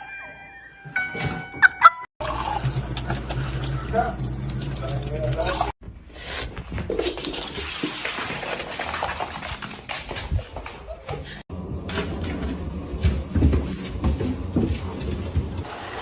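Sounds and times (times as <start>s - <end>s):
household noise: 2.2s - 11.4s, 12.2s - 16.0s.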